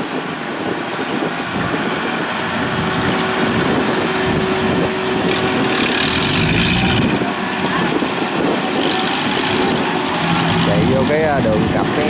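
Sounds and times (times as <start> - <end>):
diesel engine running: 0.4 - 12.0
steady whine: 0.8 - 12.0.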